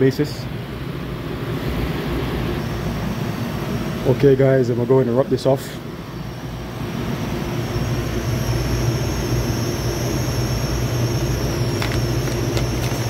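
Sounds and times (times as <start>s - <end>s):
air conditioning unit humming: 0.0s - 13.0s
faint high whine: 0.0s - 13.0s.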